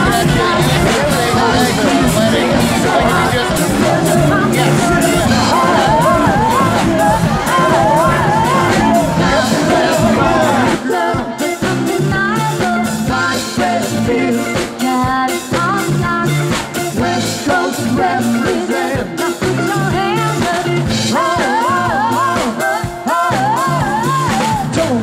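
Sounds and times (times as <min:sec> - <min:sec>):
rock band playing: 0:00.0 - 0:25.0
woman singing lead: 0:00.0 - 0:25.0.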